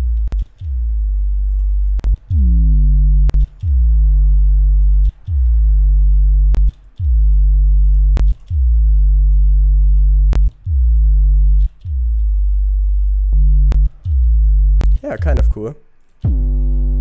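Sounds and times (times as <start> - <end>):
clicks between notes: 0.0 - 4.2, 4.8 - 16.5
synthesized sub-bass notes: 0.0 - 17.0.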